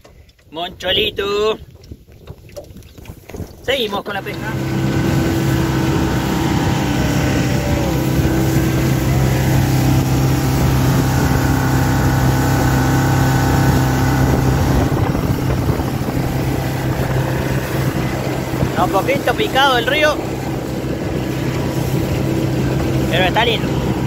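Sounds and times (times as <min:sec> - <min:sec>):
wind on microphone: 0:00.6 - 0:24.0
outboard motor running: 0:01.8 - 0:24.0
water rushing: 0:03.3 - 0:24.0.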